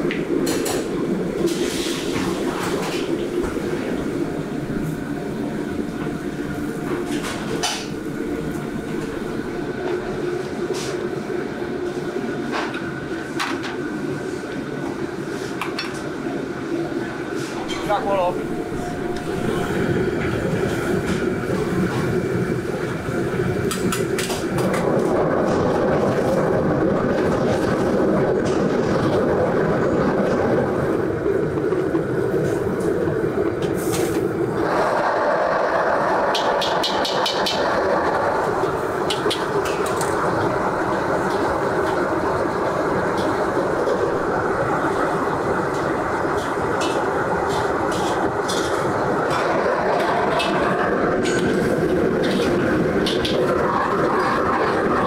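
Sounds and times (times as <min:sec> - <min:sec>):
gas burner roaring: 0:00.0 - 0:11.3, 0:17.3 - 0:55.0.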